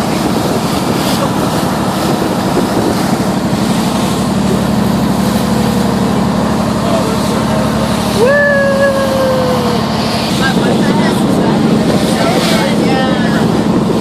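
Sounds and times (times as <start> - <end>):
boat engine running: 0.0 - 14.0
water noise: 0.0 - 14.0
wind: 0.0 - 14.0
long rising pitched tone: 1.2 - 13.7.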